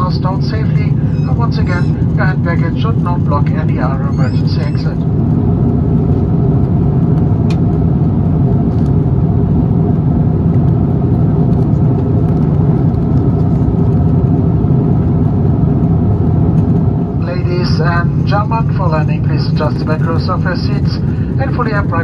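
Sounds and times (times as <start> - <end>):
engine and airflow rumble: 0.0 - 22.0
steady hums: 0.0 - 22.0.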